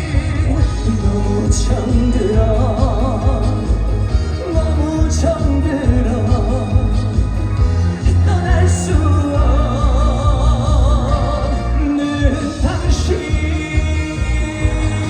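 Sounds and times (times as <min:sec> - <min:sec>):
heavy bass beat: 0:00.0 - 0:15.0
person singing with vibrato: 0:00.0 - 0:15.0.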